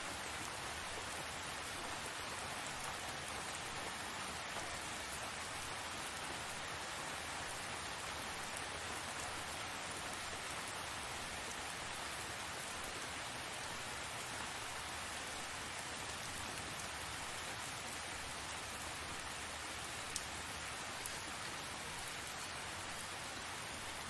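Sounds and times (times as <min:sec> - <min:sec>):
faint raindrop ticks: 0:00.0 - 0:23.2.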